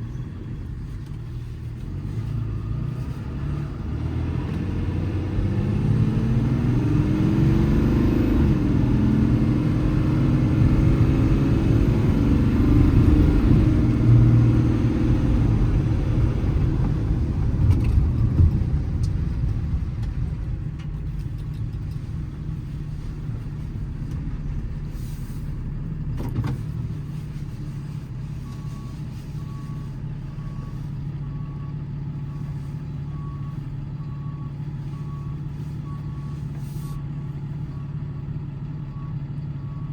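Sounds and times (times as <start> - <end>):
diesel truck accelerating: 0.0 - 39.9.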